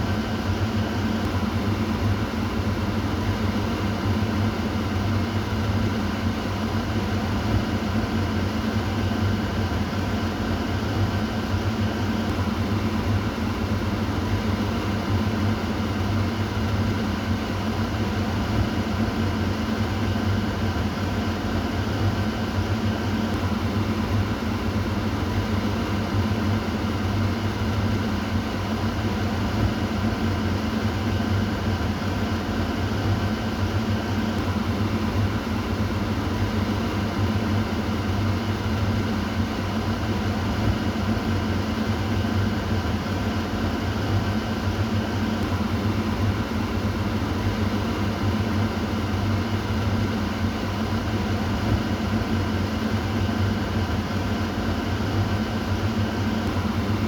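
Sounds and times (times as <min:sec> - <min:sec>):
exhaust fan humming: 0:00.0 - 0:57.0.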